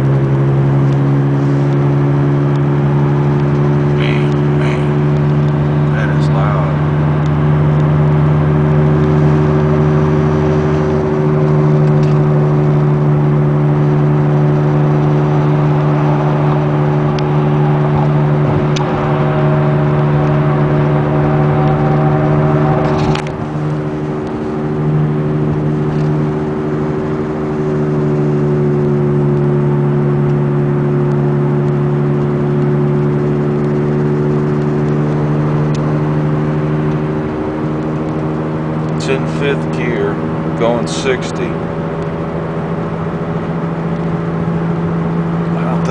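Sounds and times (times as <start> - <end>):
wheel bearing droning hum in car: 0.0 - 45.9.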